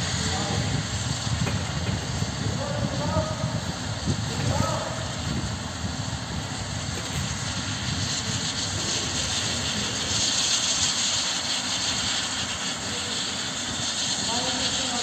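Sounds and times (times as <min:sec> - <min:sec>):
helicopter turbine and rotor: 0:00.0 - 0:15.0.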